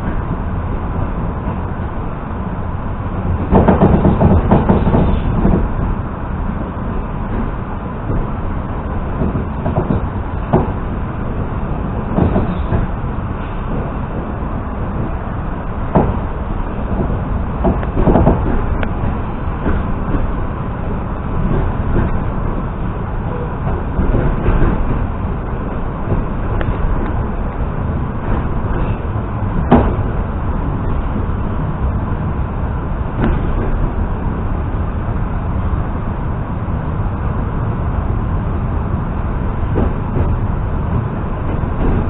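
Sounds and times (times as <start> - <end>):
wheels rumbling on rails: 0.0 - 42.0.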